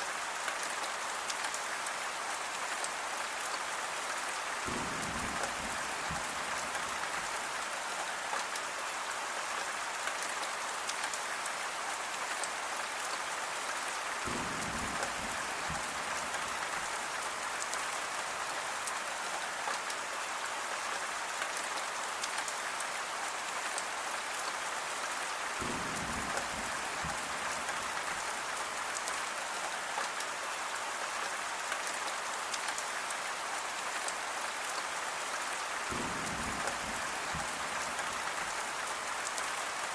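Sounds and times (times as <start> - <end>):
dense rainfall hissing: 0.0 - 39.9.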